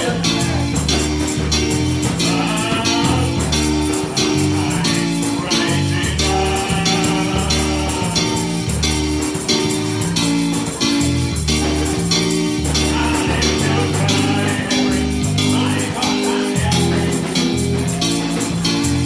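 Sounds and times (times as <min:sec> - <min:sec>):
gospel church band music: 0:00.0 - 0:19.0
tambourine: 0:00.0 - 0:19.0.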